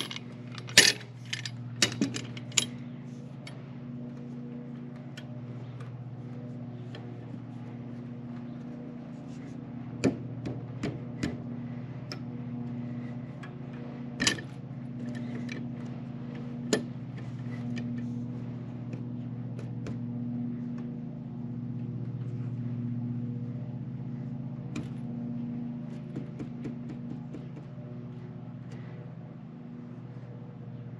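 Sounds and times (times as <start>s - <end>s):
low engine-like hum: 0.0s - 30.9s.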